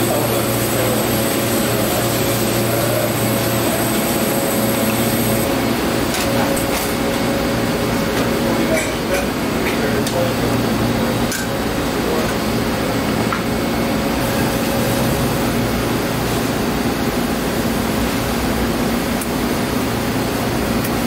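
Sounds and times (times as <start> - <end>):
ventilation airflow with low hum: 0.0 - 21.0.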